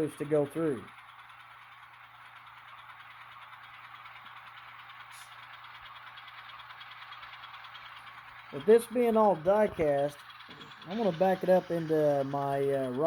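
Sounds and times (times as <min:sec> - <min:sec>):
diesel engine sound from small speaker: 0:00.0 - 0:13.0
low hum: 0:00.0 - 0:13.0.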